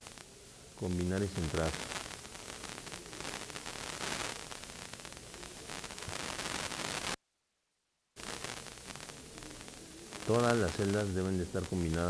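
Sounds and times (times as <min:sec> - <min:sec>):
recording noise hiss: 0:00.0 - 0:12.0.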